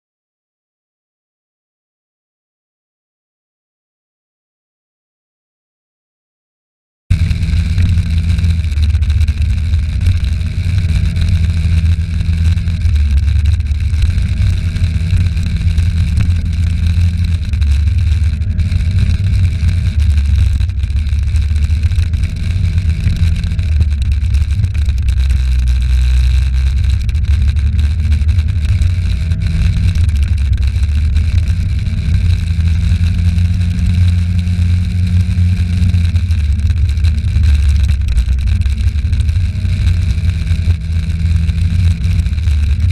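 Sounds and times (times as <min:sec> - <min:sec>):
scooter engine running: 0:07.1 - 0:42.9
wind rumble on microphone: 0:07.1 - 0:42.9.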